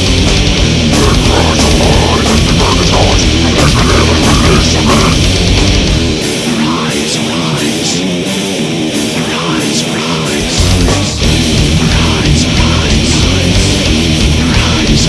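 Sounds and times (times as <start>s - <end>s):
deep bass: 0.0s - 9.3s, 10.3s - 15.0s
heavy metal music: 0.0s - 15.0s.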